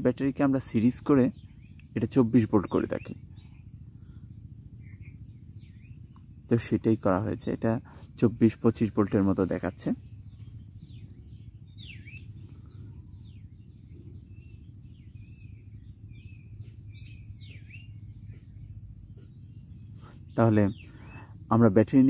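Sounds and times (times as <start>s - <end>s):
faint bird chirps: 0.0s - 22.0s
steady low hum: 0.0s - 22.0s.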